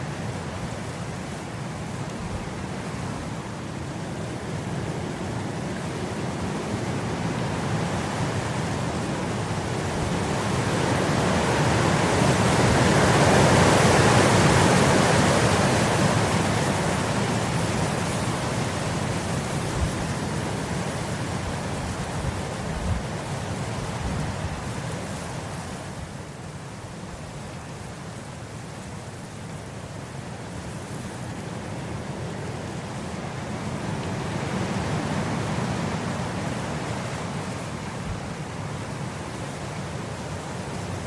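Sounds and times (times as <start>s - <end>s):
wind blowing across grass: 0.0s - 41.0s.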